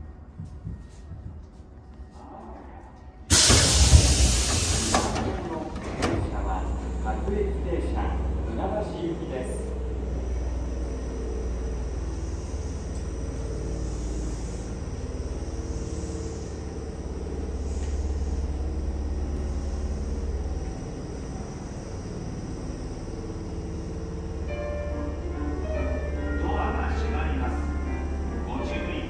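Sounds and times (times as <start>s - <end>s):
idling train rumble and hum: 0.0s - 29.0s.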